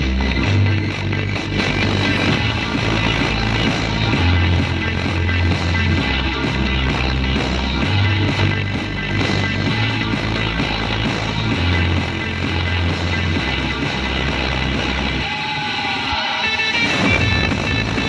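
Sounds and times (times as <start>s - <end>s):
heavy bass line: 0.0s - 18.0s.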